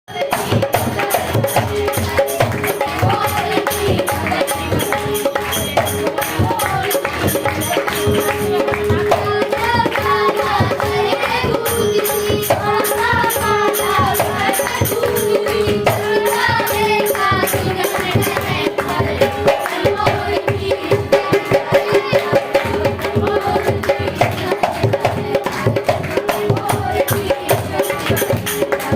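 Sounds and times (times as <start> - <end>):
fast hand percussion: 0.1 - 28.9.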